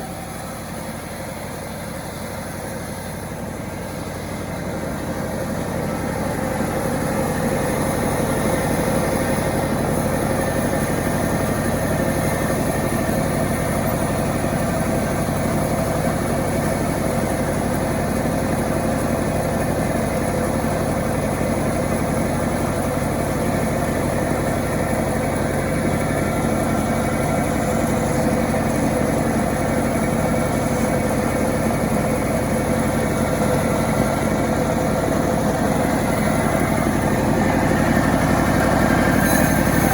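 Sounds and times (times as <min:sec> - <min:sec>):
chainsaw engine running: 0:03.2 - 0:39.9.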